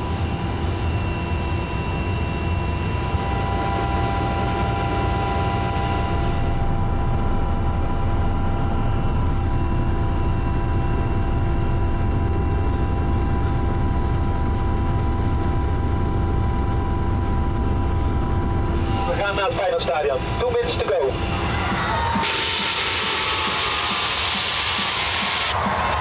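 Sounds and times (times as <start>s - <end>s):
helicopter engine whine: 0.0s - 26.0s
helicopter rotor drone: 0.0s - 26.0s.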